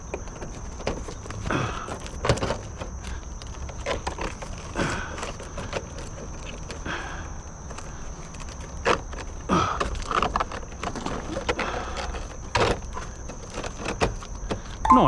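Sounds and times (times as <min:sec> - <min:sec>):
plastic scraping and rustling: 0:00.1 - 0:06.9, 0:07.6 - 0:14.8.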